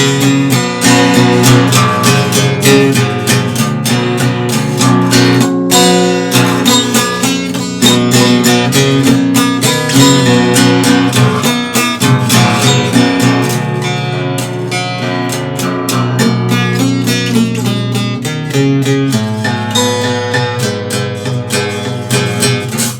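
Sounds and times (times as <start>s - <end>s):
guitar strumming chords: 0.0s - 22.9s.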